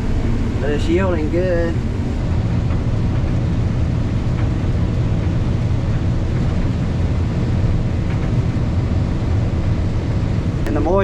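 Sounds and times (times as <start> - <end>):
farm machinery engine rumble: 0.0 - 11.0.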